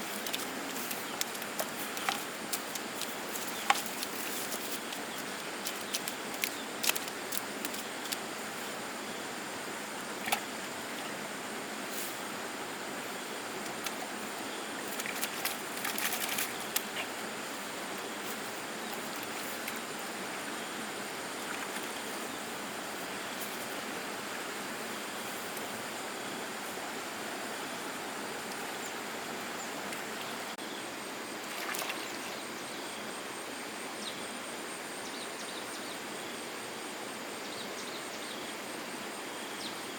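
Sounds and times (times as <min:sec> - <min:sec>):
steady outdoor noise: 0:00.0 - 0:39.9.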